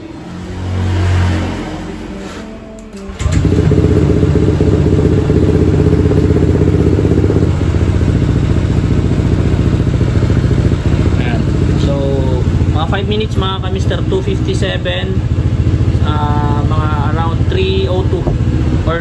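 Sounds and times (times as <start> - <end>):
motorcycle engine deep exhaust: 3.1 - 19.0.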